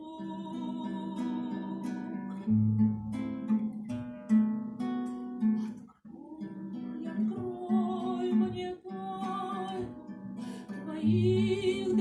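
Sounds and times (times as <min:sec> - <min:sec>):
acoustic guitar strummed and plucked: 0:00.0 - 0:12.0.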